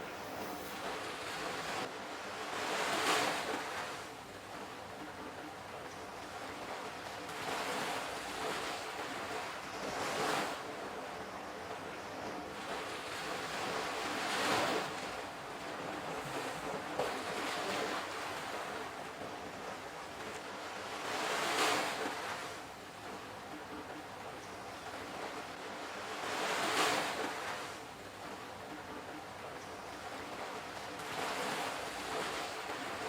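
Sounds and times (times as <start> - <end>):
rushing water like waves: 0.0 - 33.0.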